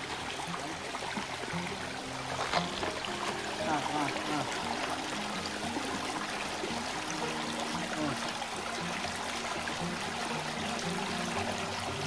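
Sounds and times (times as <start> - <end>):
river flowing: 0.0 - 12.0.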